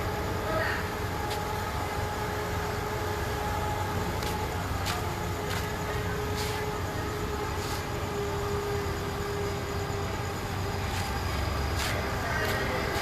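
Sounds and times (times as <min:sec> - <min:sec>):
heavy machinery rumbling: 0:00.0 - 0:13.0.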